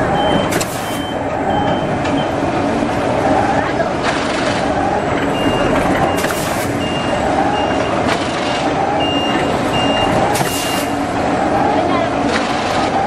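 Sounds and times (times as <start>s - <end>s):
production line machinery running: 0.0s - 13.0s.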